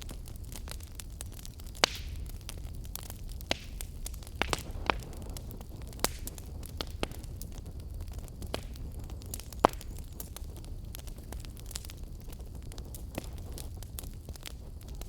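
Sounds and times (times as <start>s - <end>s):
fire crackles and pops: 0.0s - 15.0s
fire flames rumbling: 0.0s - 15.0s.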